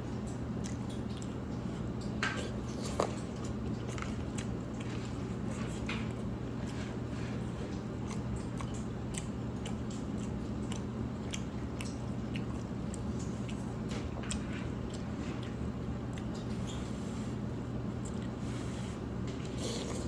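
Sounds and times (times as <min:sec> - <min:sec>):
person chewing: 0:00.6 - 0:20.0.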